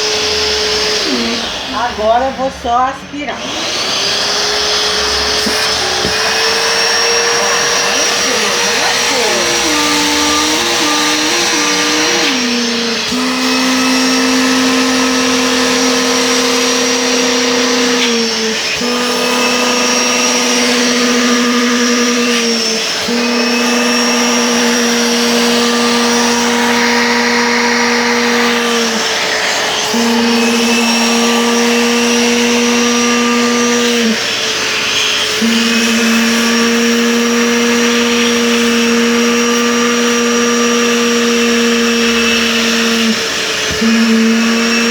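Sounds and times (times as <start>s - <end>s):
upholstery vacuum motor whine: 0.0s - 44.9s.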